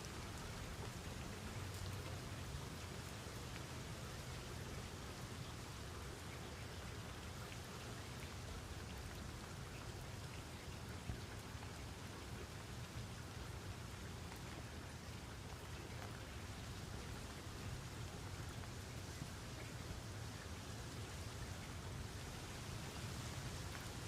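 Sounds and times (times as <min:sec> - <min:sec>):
raindrops ticking: 0:00.0 - 0:24.0
steady rain hiss: 0:00.0 - 0:24.0.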